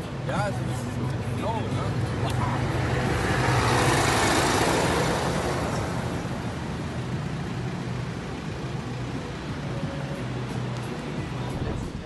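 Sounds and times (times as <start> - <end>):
tank truck driving past: 0.0 - 12.0.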